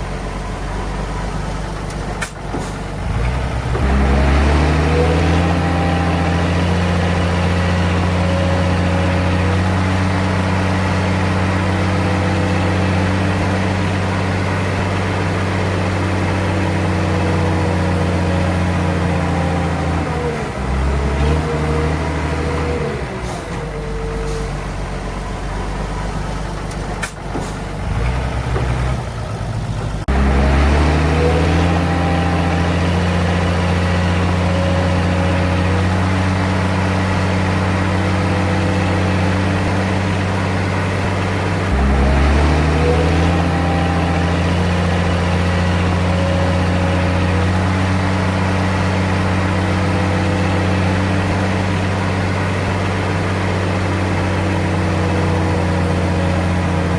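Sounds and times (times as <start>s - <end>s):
heavy diesel engine revving: 0.0s - 56.9s.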